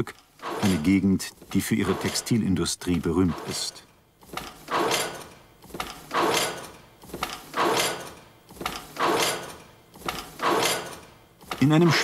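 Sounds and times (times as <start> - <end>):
weaving loom knock and rasp: 0.0 - 2.4, 3.2 - 11.7.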